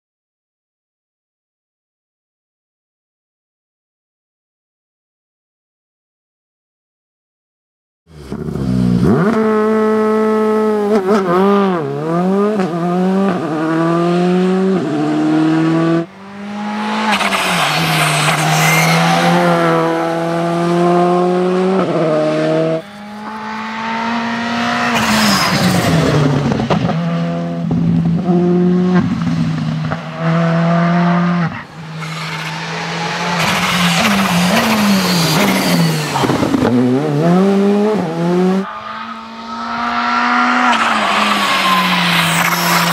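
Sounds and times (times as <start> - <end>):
rally car engine driving past: 8.1 - 42.9.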